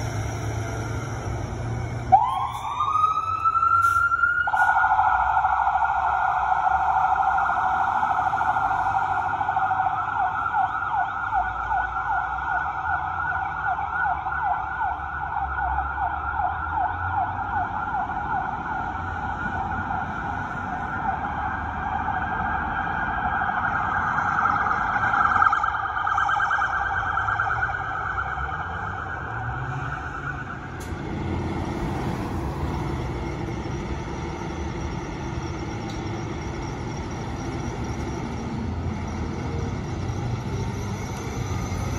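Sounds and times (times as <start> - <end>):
truck engine rumbling: 0.0 - 13.2, 16.3 - 41.9
fire engine siren yelping: 0.0 - 41.9.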